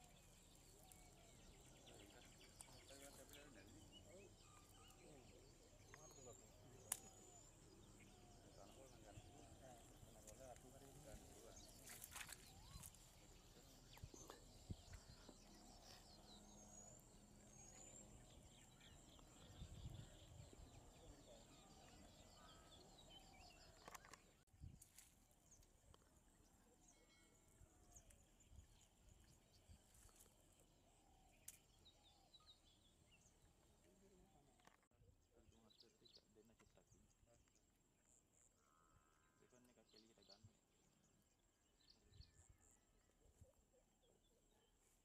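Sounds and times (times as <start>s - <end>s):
bird chirps: 0.0s - 24.4s, 25.5s - 40.5s.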